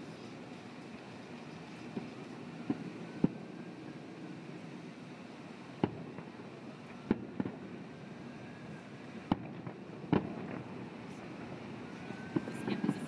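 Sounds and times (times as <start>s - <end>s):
distant fireworks bursting: 0.0s - 13.0s
steady background hiss: 0.0s - 13.0s.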